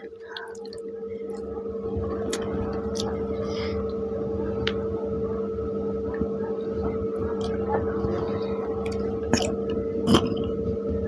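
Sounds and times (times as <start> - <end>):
low two-pitch hum: 0.0 - 11.0.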